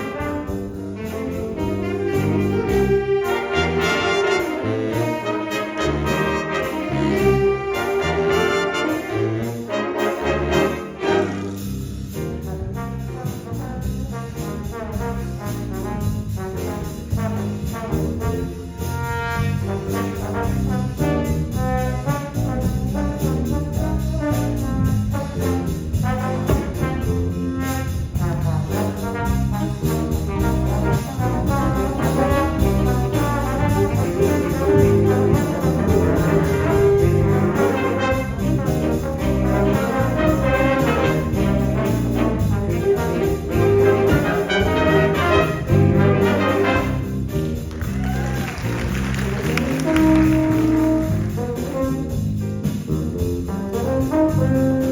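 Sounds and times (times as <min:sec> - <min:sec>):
brass section: 0:00.0 - 0:54.9
jazz big band playing: 0:00.0 - 0:54.9.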